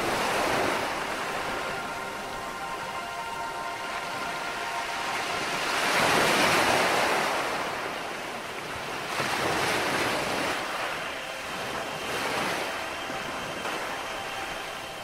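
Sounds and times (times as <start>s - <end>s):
waves washing onto sandy shore: 0.0s - 15.0s.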